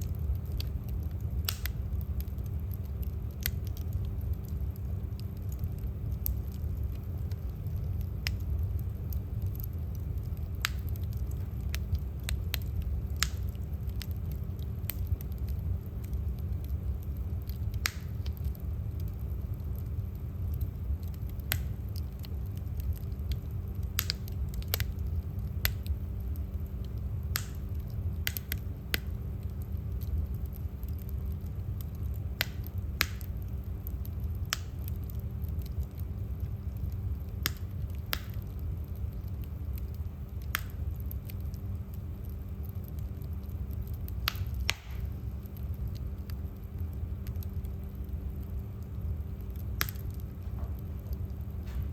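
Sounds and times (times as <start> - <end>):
firewood crackling and popping: 0.0 - 51.9.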